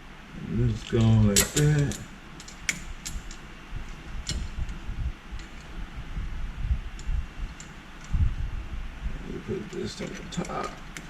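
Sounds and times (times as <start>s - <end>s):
low steady background rumble: 0.0s - 11.0s.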